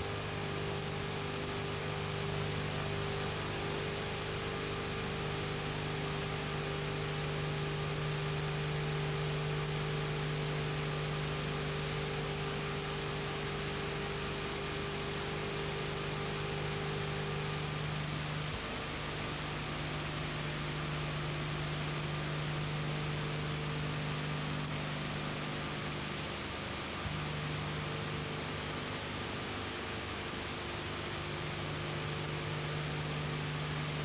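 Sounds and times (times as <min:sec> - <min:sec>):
low electrical hum: 0:00.0 - 0:34.0
tape hiss: 0:00.0 - 0:34.0.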